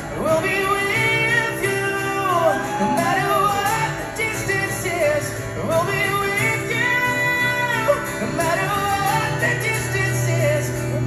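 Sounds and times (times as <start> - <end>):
acoustic guitar: 0.0 - 11.0
man singing slow song: 0.0 - 11.0.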